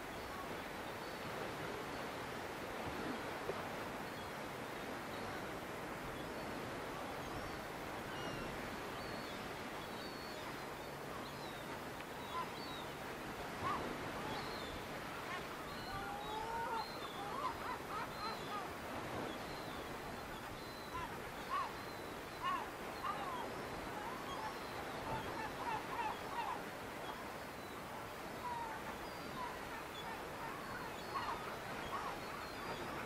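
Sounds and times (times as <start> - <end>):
distant sea: 0.0 - 33.0
wind: 0.0 - 33.0.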